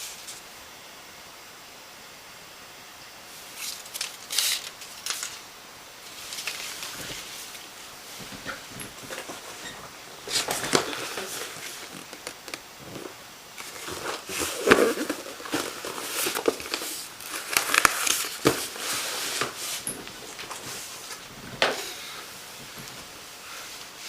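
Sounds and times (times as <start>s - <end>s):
crinkling and rustling: 3.4s - 24.0s.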